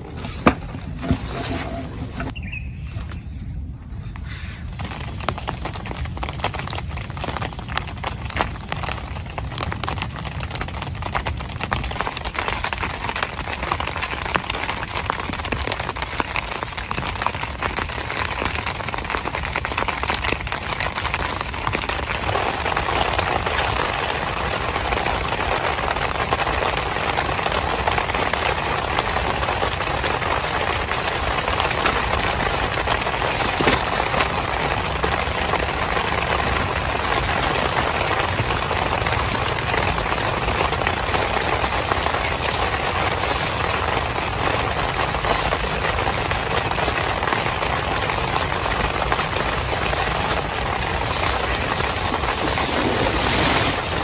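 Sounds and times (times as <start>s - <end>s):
heavy rain on a tent: 0.0s - 3.1s, 3.8s - 54.0s.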